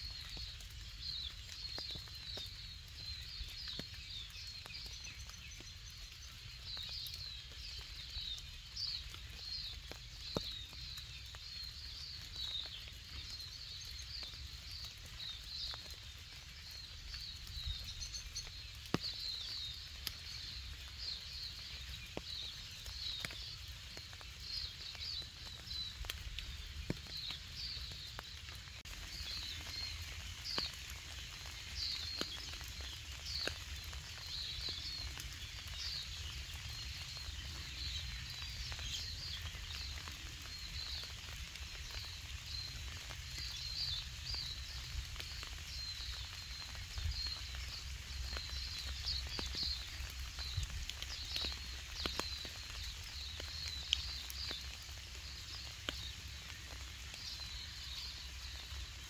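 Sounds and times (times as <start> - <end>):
rain drips ticking: 0.0 - 59.0
small birds chirping: 0.0 - 59.0.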